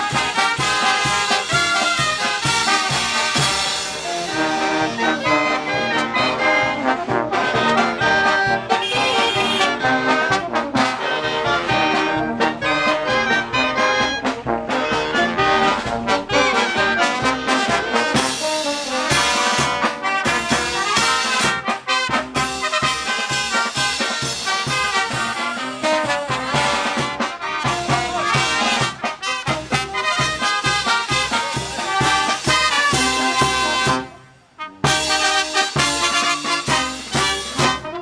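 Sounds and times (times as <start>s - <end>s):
brass band playing: 0.0s - 38.0s.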